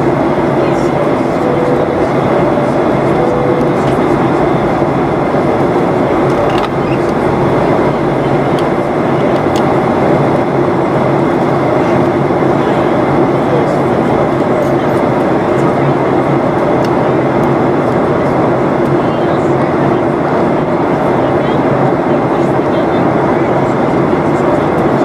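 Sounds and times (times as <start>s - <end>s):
steady hum tones: 0.0s - 20.0s
airplane cabin engine noise: 0.0s - 25.0s.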